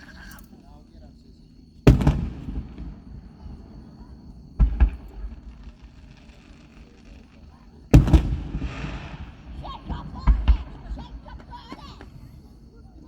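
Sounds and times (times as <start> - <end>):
fireworks bangs: 1.6 - 13.0.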